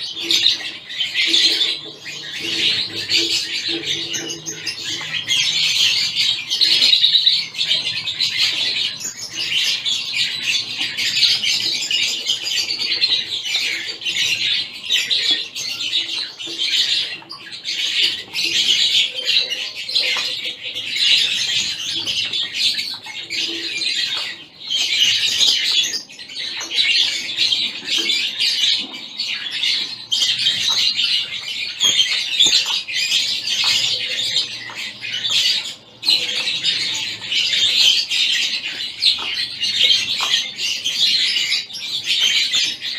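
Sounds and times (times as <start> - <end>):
finches chirping: 0.0 - 42.9.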